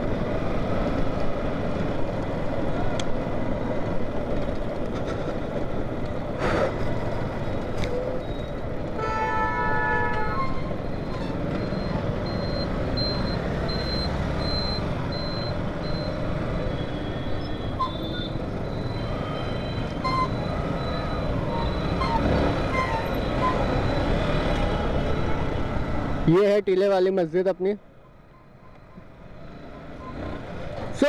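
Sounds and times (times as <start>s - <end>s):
road noise: 0.0s - 31.0s
wind: 0.0s - 31.0s.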